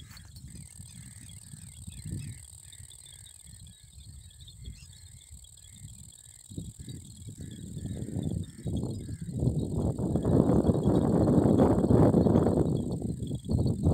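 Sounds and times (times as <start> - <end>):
crickets droning: 0.0 - 13.9
short insect chirp: 0.0 - 13.9
wind buffeting microphone: 0.0 - 13.9.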